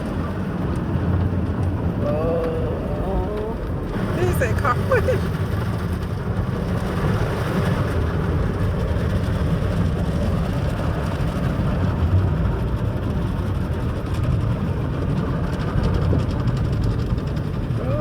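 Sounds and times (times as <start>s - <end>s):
car wash water spray and machinery: 0.0s - 18.0s.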